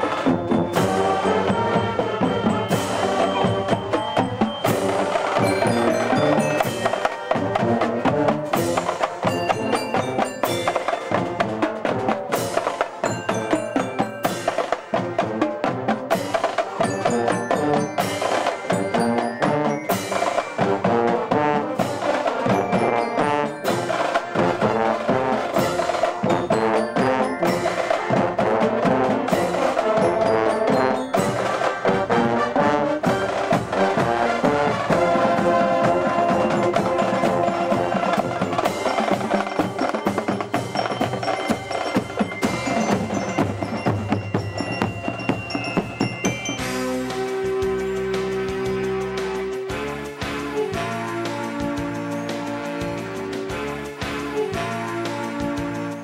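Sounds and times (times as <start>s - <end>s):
drums beating march rhythm: 0.0s - 56.0s
marching band playing: 0.0s - 56.0s.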